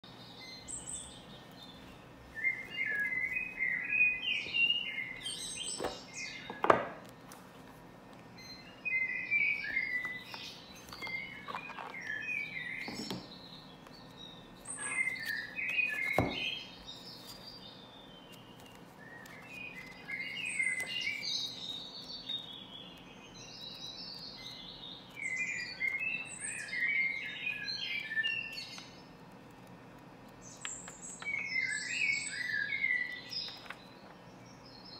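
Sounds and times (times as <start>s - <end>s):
bird chirping: 0.0s - 7.1s, 8.2s - 34.9s.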